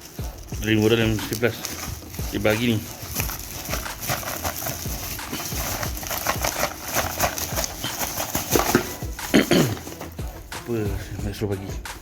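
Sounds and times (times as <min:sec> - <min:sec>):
packaging rustling and crackling: 0:00.0 - 0:10.5.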